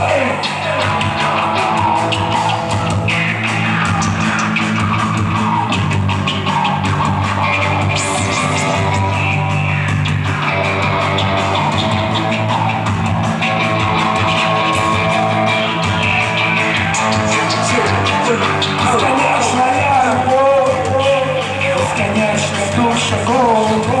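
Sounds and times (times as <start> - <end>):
bass guitar: 0.0 - 24.0
distorted electric guitars: 0.0 - 24.0
drum kit: 0.0 - 24.0.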